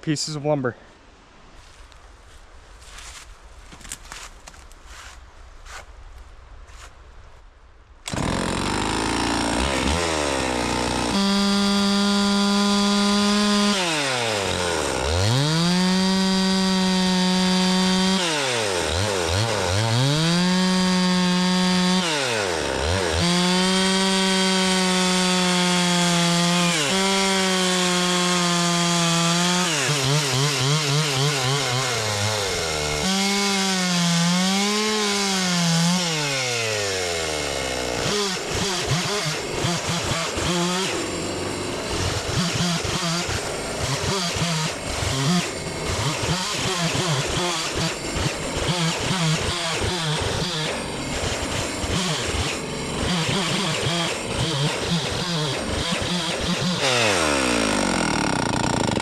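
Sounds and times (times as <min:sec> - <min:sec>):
chainsaw ripping a log: 0:08.1 - 0:59.0.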